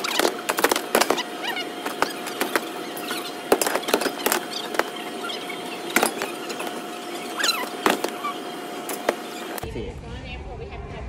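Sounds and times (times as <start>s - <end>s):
short squeals: 0.0s - 9.6s.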